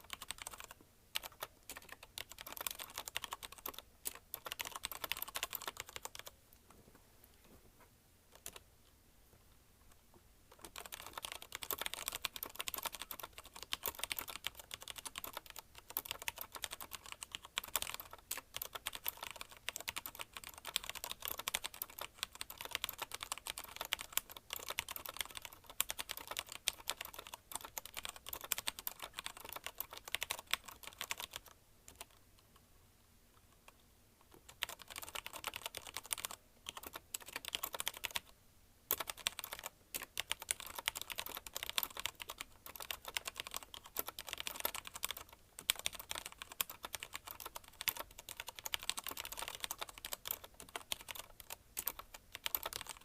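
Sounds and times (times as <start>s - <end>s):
mechanical keyboard typing: 0.0s - 6.4s, 8.3s - 8.6s, 10.5s - 32.2s, 34.3s - 38.3s, 38.9s - 53.0s.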